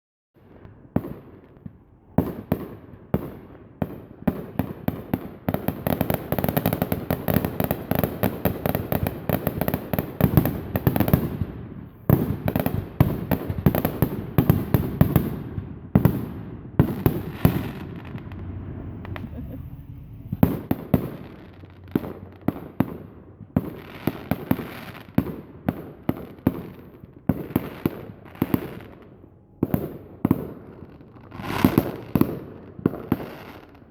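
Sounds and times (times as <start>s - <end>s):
fireworks cracks and bangs: 0.4s - 33.9s.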